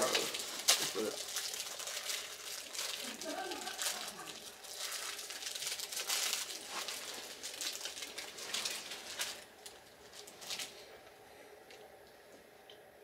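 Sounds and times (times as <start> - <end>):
plastic wrapper crinkling: 0.0 - 10.9.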